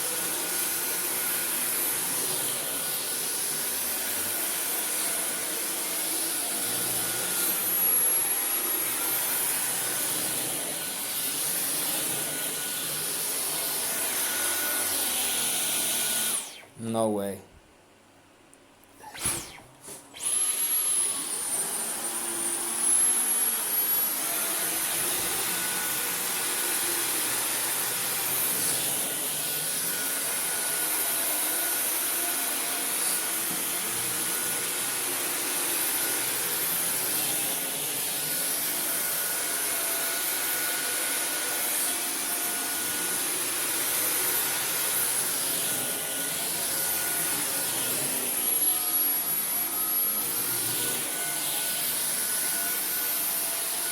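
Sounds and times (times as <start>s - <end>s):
vacuum cleaner motor whine: 0.0s - 16.7s, 19.0s - 53.9s.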